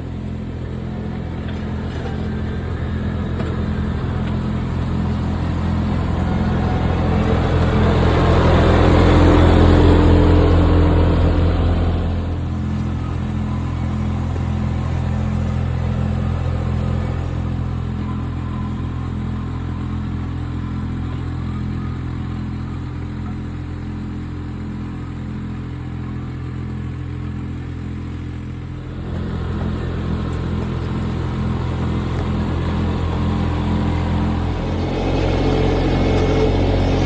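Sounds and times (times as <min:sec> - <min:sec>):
diesel backhoe engine running: 0:00.0 - 0:37.0.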